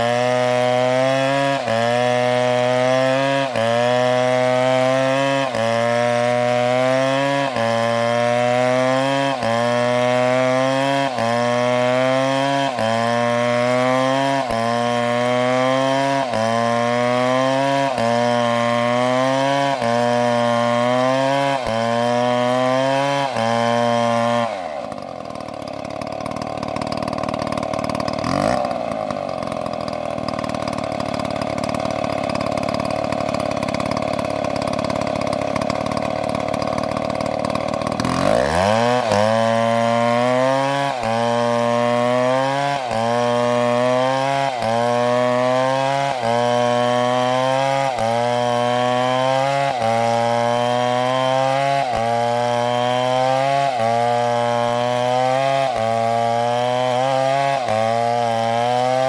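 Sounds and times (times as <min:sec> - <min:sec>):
chainsaw cutting and idling: 0:00.0 - 0:59.0.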